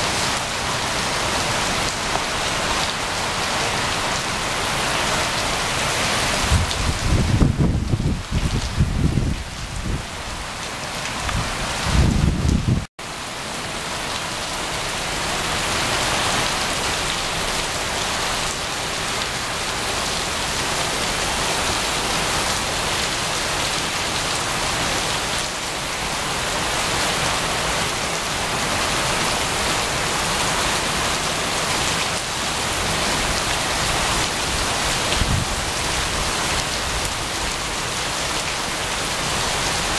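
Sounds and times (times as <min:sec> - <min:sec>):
heavy rain on paving: 0:00.0 - 0:39.9.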